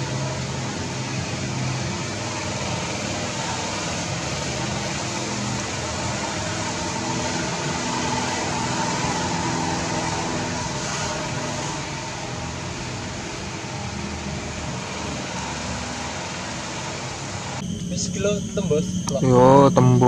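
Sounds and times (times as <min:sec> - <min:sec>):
mechanical drone with hum: 0:00.0 - 0:20.0.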